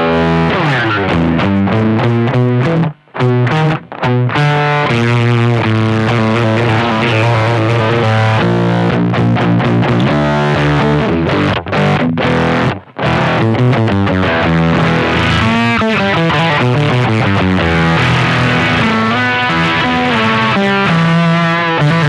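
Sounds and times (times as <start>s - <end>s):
fuzz electric guitar riffs: 0.0s - 22.0s.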